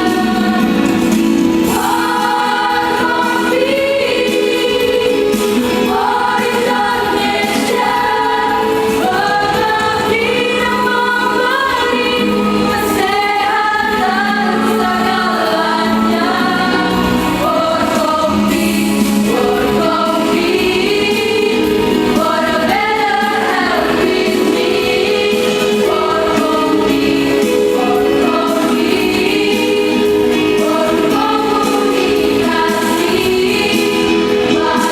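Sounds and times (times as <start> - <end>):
choir singing in harmony: 0.0 - 34.9.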